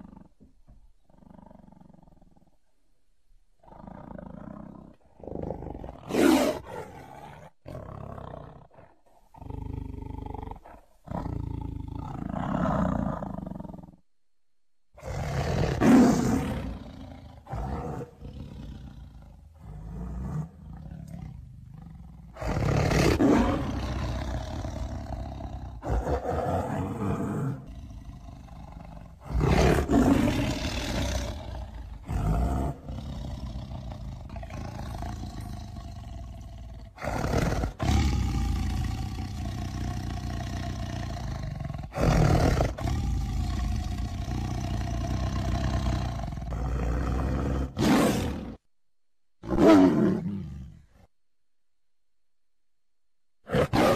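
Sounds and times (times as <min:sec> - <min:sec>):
tiger roaring: 0:03.6 - 0:14.0, 0:15.0 - 0:48.6, 0:49.4 - 0:51.1, 0:53.4 - 0:53.9.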